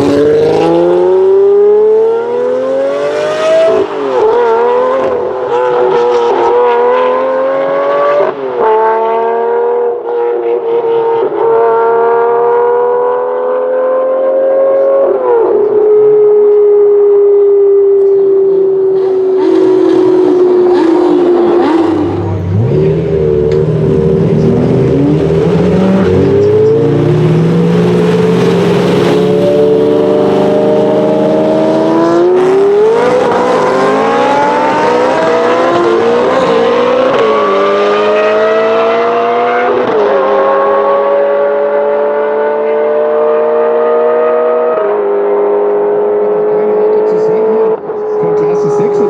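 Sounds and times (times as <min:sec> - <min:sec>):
sports car engine accelerating: 0:00.0 - 0:49.0.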